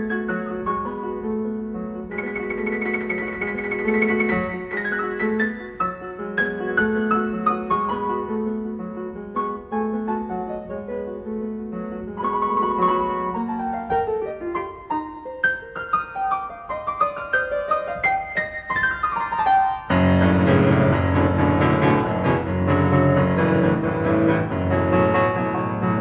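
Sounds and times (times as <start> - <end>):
classical piano passage: 0.0 - 26.0.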